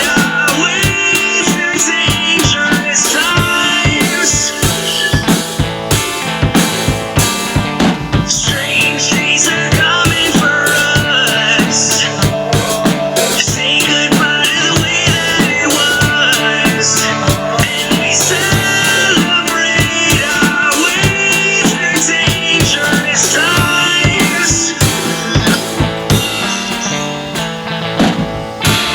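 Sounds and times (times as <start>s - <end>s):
drum kit beat: 0.0s - 28.9s
loud rock music: 0.0s - 28.9s.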